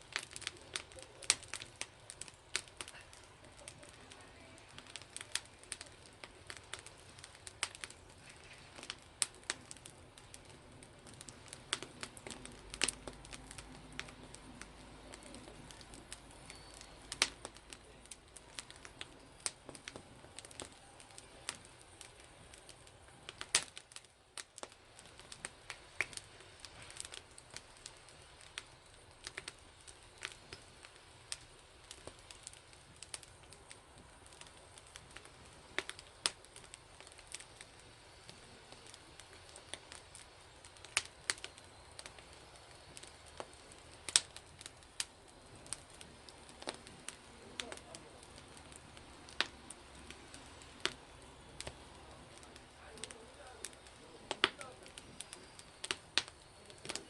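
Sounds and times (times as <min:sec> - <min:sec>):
sharp pops from fire: 0:00.0 - 0:57.0
wood fire crackling: 0:00.0 - 0:57.0.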